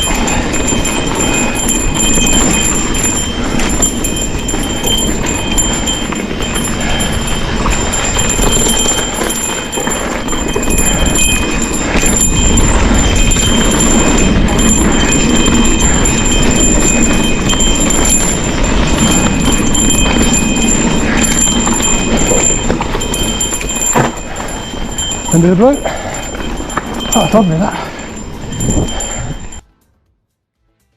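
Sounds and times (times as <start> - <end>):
bike bell clanking: 0.0 - 29.6
tyres rumbling on rough trail: 0.0 - 29.6.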